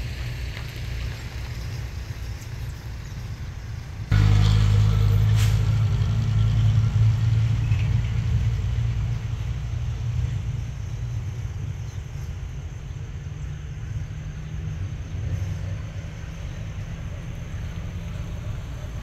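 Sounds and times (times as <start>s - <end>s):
idling engines rumbling: 0.0s - 19.0s.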